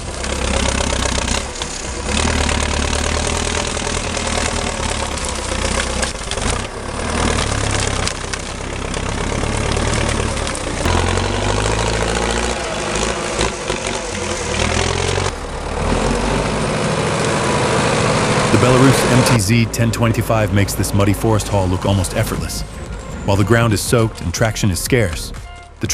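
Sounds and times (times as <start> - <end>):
machinery engine running: 0.0 - 25.9.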